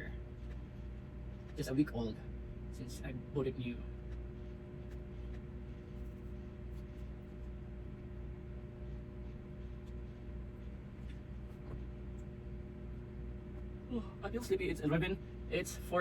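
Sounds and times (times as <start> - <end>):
appliance electrical hum: 0.0 - 16.0.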